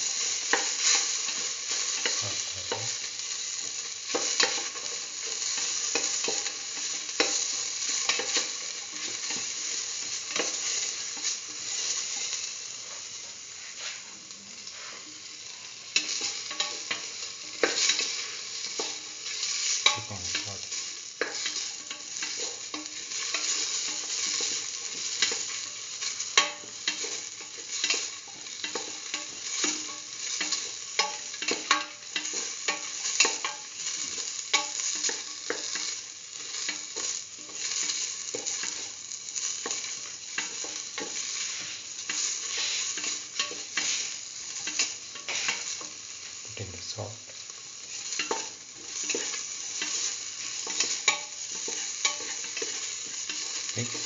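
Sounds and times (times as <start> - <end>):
vegetables sizzling in hot oil: 0.0 - 54.0.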